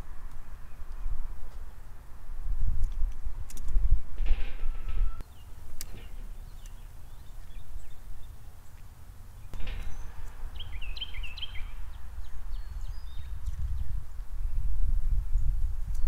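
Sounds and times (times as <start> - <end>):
wind buffeting microphone: 0.0 - 8.6, 9.5 - 16.0
songbirds chirping: 0.0 - 16.0.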